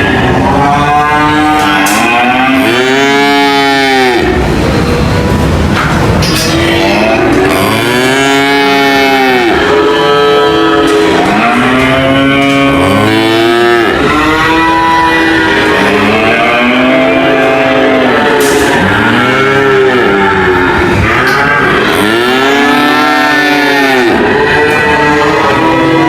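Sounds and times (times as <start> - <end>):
cows mooing: 0.0 - 26.0.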